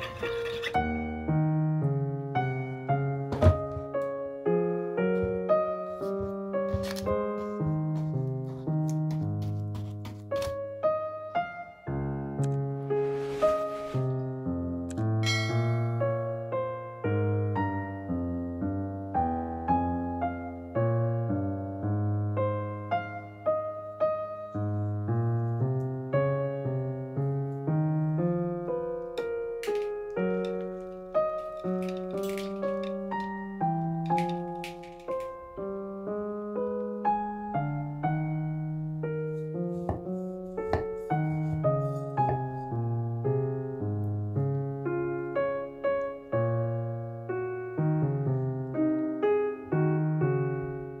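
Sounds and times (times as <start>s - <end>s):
slow piano melody: 0.0s - 51.0s.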